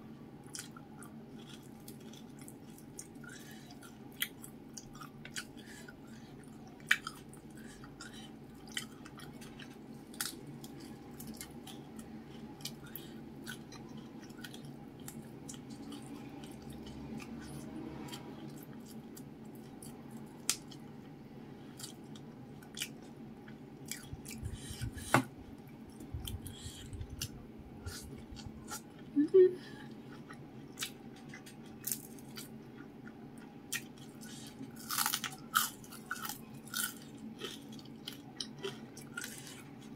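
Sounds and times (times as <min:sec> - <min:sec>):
steady low hum: 0:00.0 - 0:39.9
chewing crispy food: 0:00.4 - 0:39.9.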